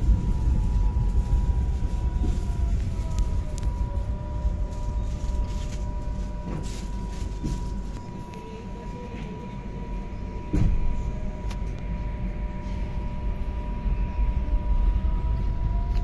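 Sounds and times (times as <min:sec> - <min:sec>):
steady high electrical tone: 0:00.0 - 0:16.0
train low rumble: 0:00.0 - 0:16.0.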